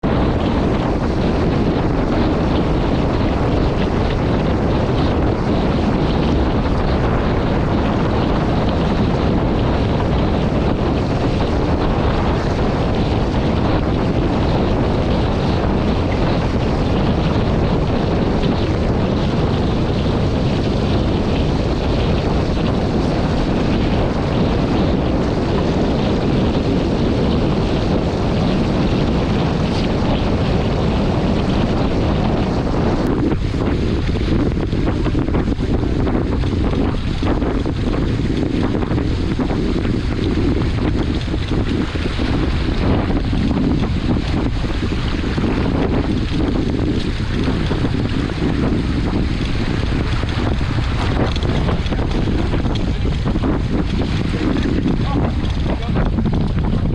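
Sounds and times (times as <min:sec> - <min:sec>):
water rushing along a hull: 0:00.0 - 0:56.9
wind buffeting microphone: 0:00.0 - 0:56.9.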